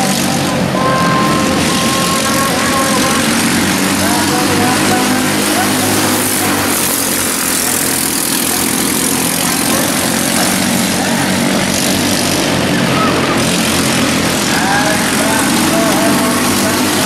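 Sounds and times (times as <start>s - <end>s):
small race car engines running: 0.0s - 17.0s.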